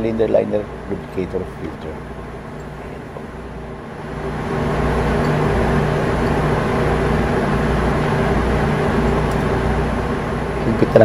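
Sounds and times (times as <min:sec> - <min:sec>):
engine-room machinery droning: 0:00.0 - 0:11.0.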